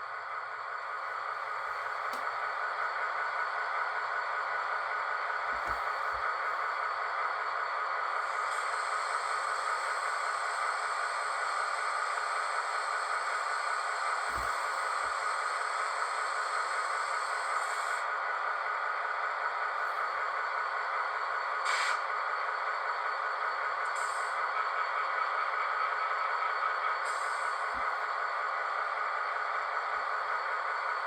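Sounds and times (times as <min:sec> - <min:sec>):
thin diesel engine sound from speaker: 0:00.0 - 0:31.0.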